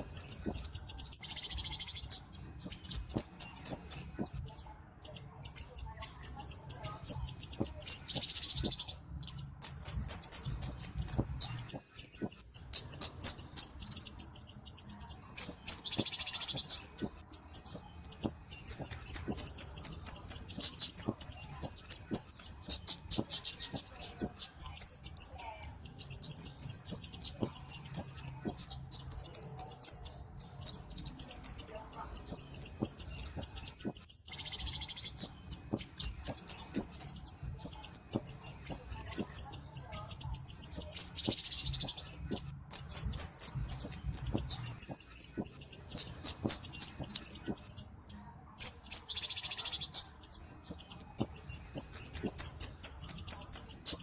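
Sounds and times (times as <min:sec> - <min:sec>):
bird high thin ticking song: 0:00.0 - 0:54.0.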